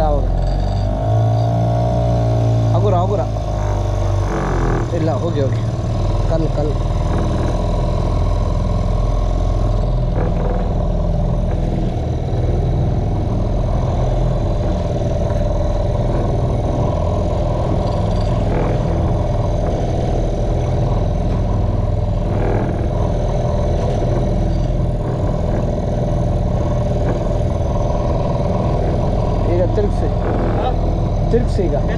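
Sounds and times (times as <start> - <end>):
outboard motor running: 0.0 - 31.9.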